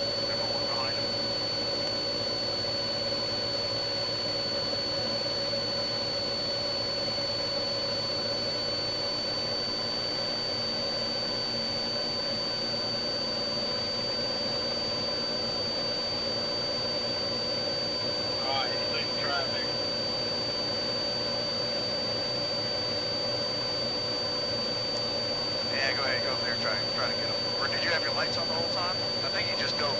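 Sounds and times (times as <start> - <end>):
helicopter turbine whine: 0.0 - 8.5, 11.0 - 29.9
helicopter rotor drone: 0.0 - 29.9.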